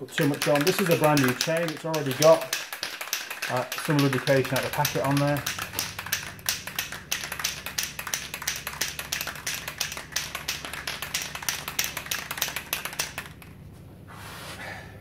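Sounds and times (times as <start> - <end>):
aerosol can rattling when shaken: 0.0 - 13.6.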